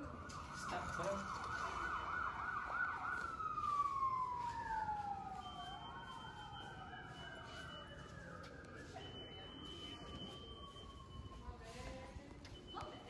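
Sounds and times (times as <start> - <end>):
second siren tone: 0.0 - 13.0
siren yelp and wail: 0.0 - 13.0.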